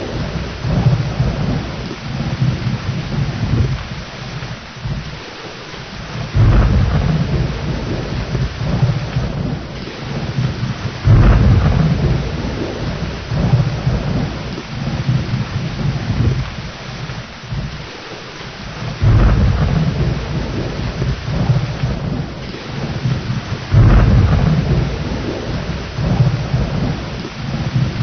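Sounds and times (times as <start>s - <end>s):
rolling thunder: 0.0s - 18.0s, 18.6s - 28.0s
heavy rain: 0.0s - 28.0s.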